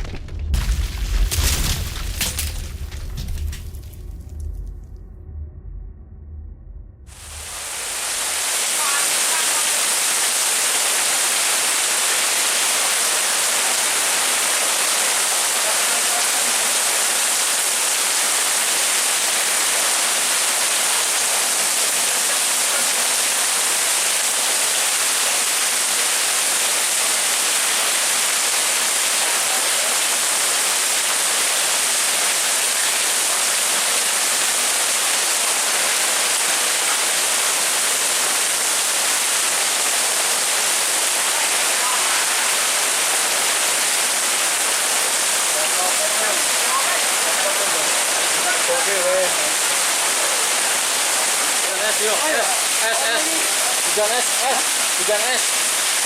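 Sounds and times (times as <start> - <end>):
heavy rain pouring: 0.0 - 5.0, 7.1 - 56.0.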